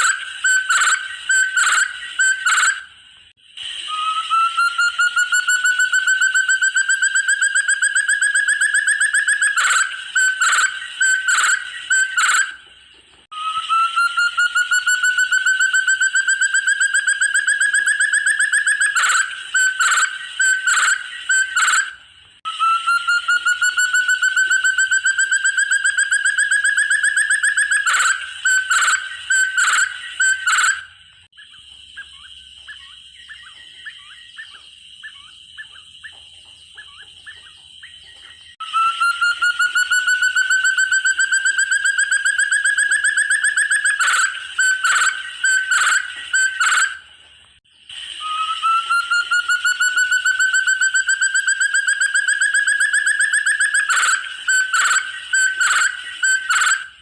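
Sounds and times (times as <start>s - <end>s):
faint bird chirps: 0.0s - 57.0s
partridge whistled call: 0.0s - 57.0s.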